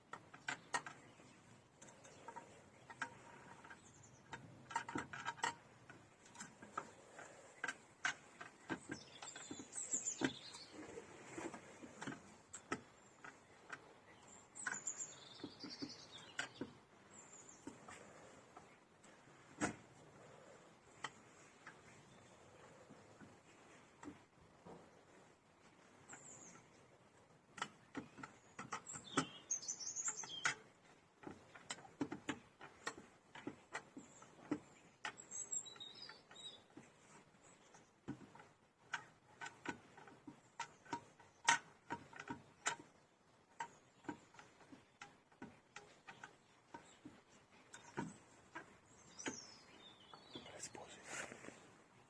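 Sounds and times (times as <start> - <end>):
outboard motor parts clicking: 0.0 - 52.0
birds chirping: 0.3 - 52.0.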